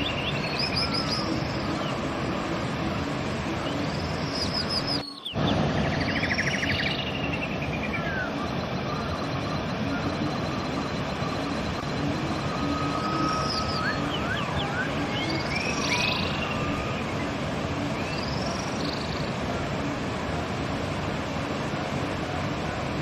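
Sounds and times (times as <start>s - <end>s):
birds chirping: 0.0s - 19.4s
river flowing: 0.0s - 23.0s.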